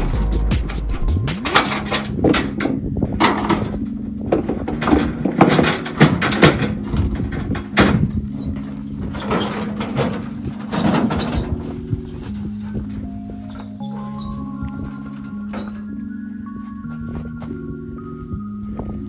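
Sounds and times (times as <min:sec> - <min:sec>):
wheelbarrow and shovel clattering: 0:00.0 - 0:19.0.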